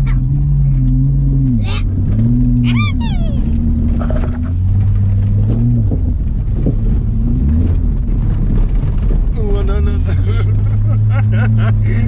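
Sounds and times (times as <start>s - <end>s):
car engine under throttle: 0.0s - 12.0s.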